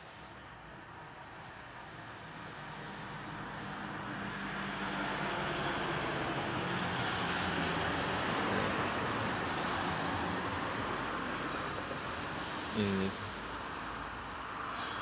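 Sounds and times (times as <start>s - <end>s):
vehicle passing by: 2.1s - 15.0s.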